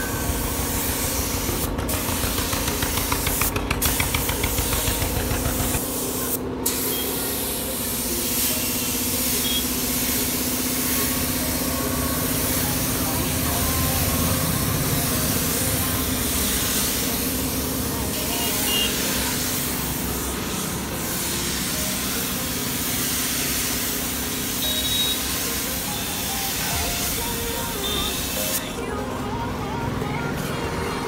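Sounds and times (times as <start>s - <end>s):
paint spray gun hissing: 0.0s - 28.9s.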